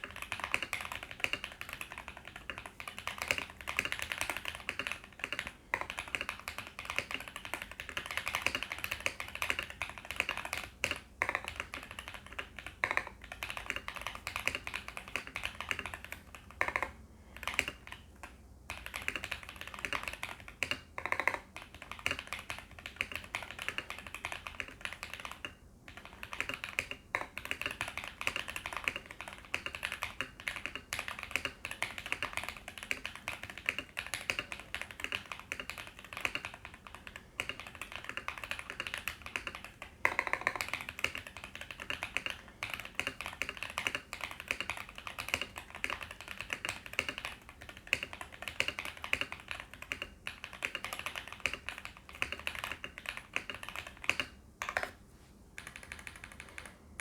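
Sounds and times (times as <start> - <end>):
mechanical keyboard typing: 0.0 - 55.0, 55.6 - 57.0.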